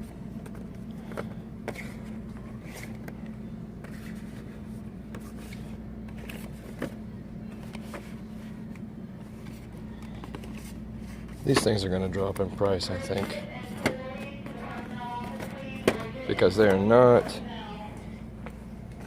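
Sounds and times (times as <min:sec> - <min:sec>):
low store background hum: 0:00.0 - 0:19.0.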